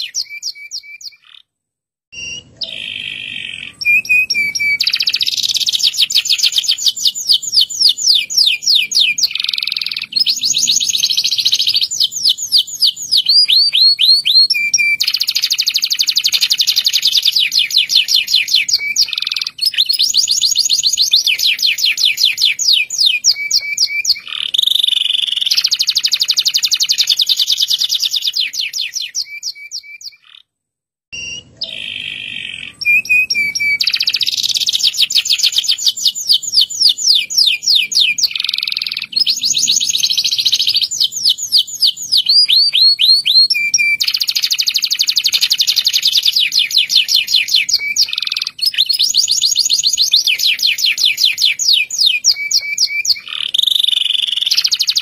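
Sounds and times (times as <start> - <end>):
canary singing trills: 0.0 - 1.5, 2.1 - 30.5, 31.1 - 55.0.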